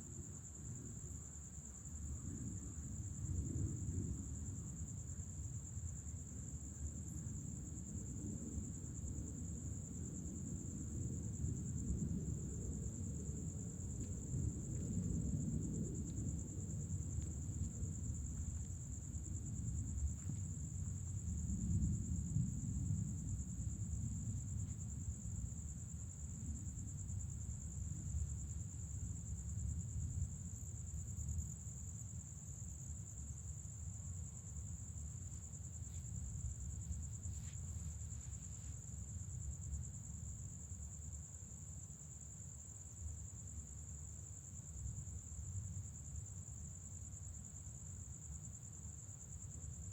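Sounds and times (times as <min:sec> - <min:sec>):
night insects trilling: 0:00.0 - 0:49.9.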